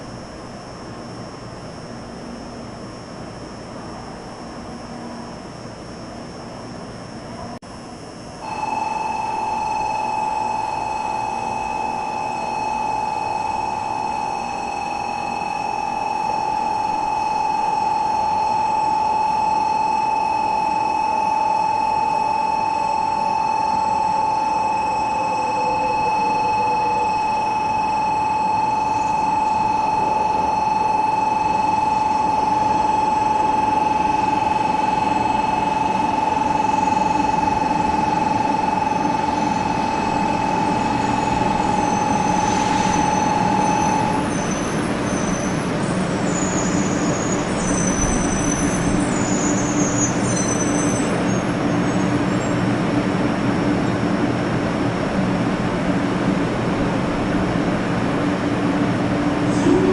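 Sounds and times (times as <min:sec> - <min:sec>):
train electrical whine: 0:00.0 - 0:59.9
train running noise with hum: 0:00.0 - 0:59.9.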